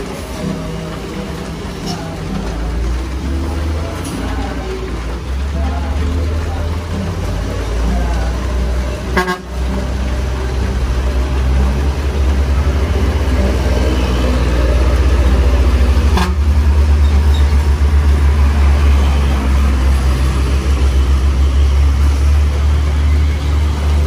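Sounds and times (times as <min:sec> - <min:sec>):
diesel truck engine labouring: 0:00.0 - 0:24.0
traffic hiss on wet road: 0:00.0 - 0:24.0.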